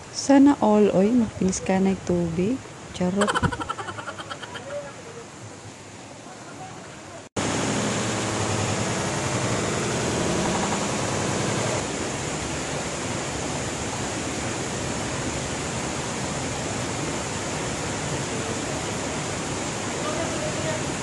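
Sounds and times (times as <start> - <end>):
stream water rushing: 2.4 - 21.0.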